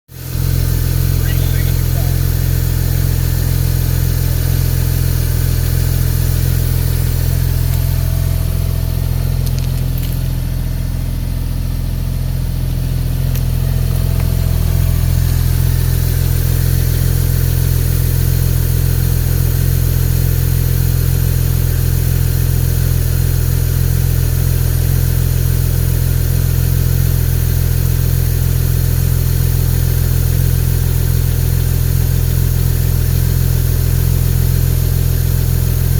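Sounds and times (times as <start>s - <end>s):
car engine idling: 0.1s - 35.9s.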